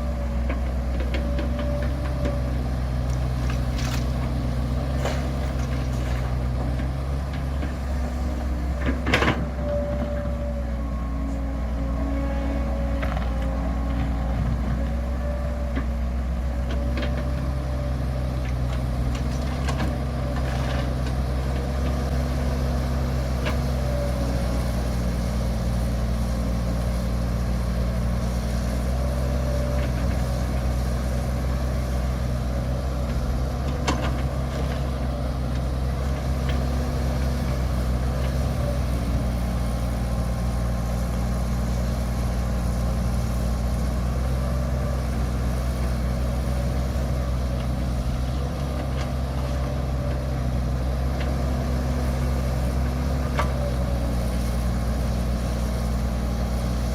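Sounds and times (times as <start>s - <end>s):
heavy machine engine running: 0.0s - 56.9s.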